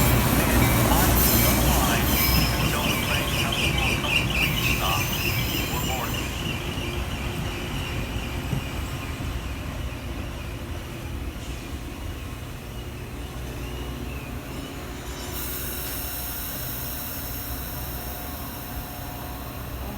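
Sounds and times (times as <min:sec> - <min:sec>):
train rumbling: 0:00.0 - 0:19.9.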